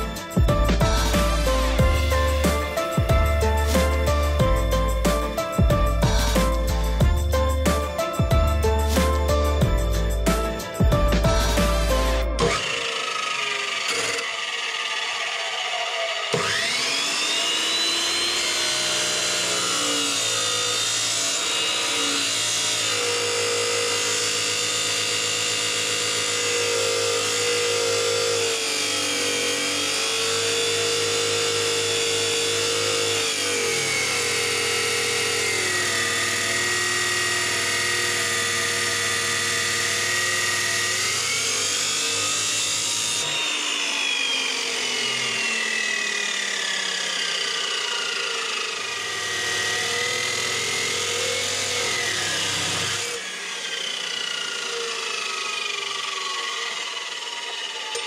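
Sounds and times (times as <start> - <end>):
chop saw cutting steel: 0.0 - 58.0.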